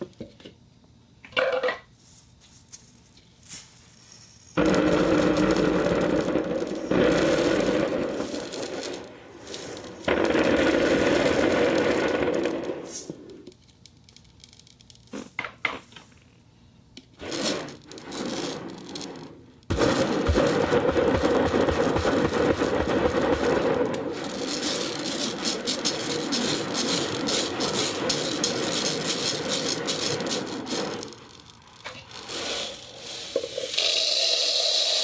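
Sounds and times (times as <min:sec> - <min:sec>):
ceramic balls rattling: 0:03.5 - 0:15.1, 0:17.2 - 0:35.0.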